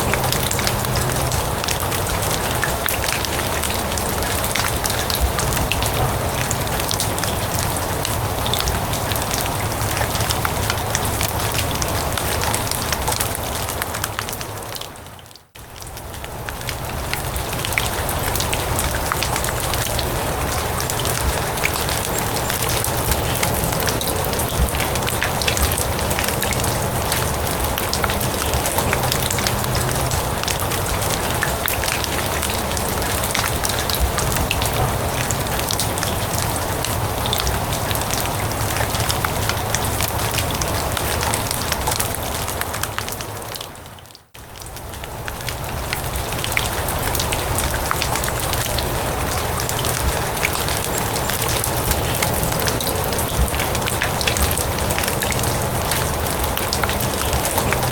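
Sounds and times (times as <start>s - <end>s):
rain falling on grass and leaves: 0.0s - 57.9s.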